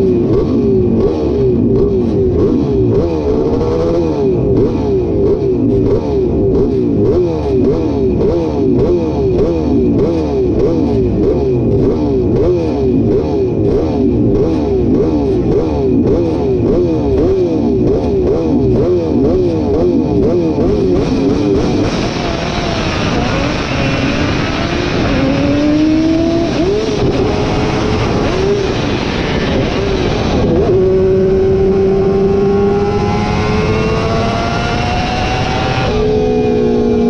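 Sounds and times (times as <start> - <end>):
racing engine revving: 0.0 - 37.0.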